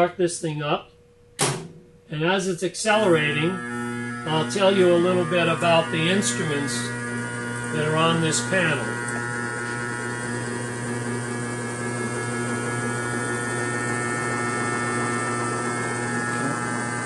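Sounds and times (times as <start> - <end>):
electric motor hum: 1.6 - 17.0.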